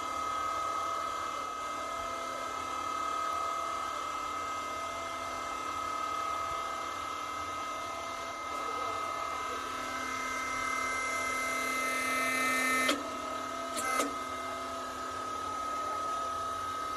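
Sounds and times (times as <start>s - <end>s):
hydraulic machine high whine: 0.0s - 16.9s.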